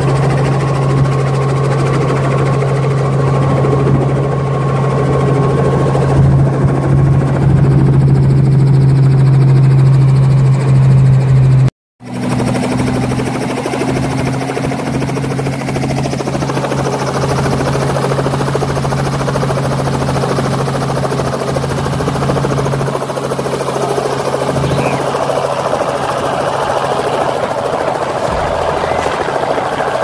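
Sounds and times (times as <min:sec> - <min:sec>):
helicopter engine hum: 0:00.0 - 0:30.0.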